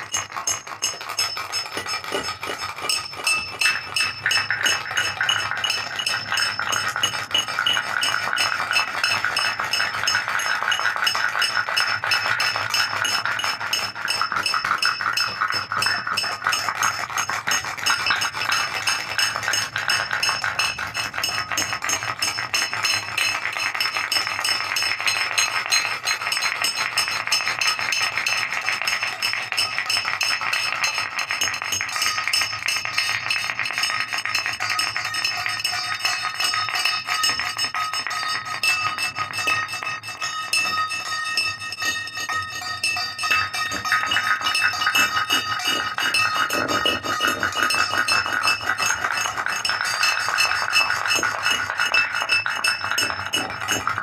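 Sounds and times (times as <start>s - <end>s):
clinking metallic music: 0.0s - 54.0s.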